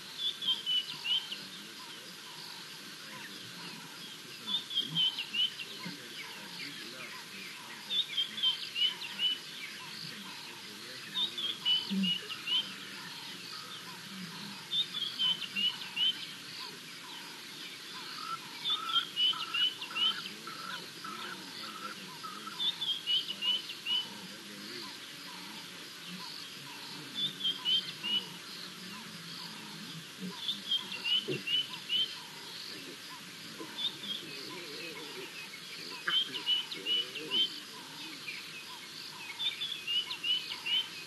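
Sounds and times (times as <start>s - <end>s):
lower repeating bird notes: 0.0s - 41.0s.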